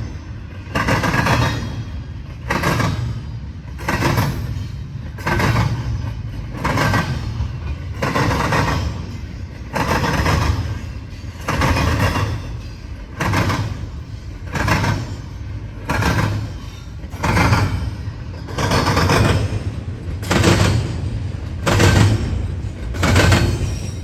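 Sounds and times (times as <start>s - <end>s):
train wheels clattering over track: 0.0s - 24.0s.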